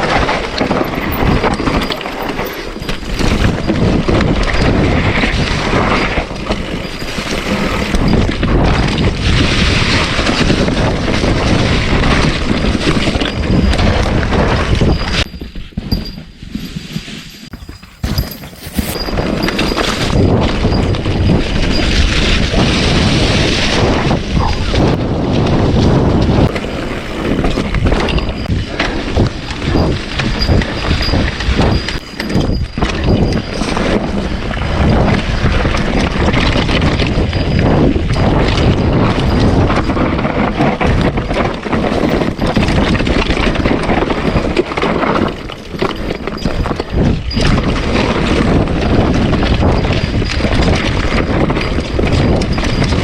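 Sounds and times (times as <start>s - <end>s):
wind buffeting microphone: 0.0s - 16.7s, 17.5s - 53.0s.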